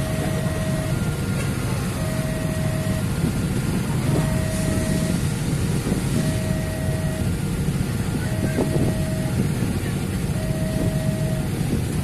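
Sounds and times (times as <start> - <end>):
two-tone crossing alarm: 0.0 - 5.4, 6.0 - 7.4, 8.1 - 9.6, 10.3 - 11.7
low rumble: 0.0 - 12.0.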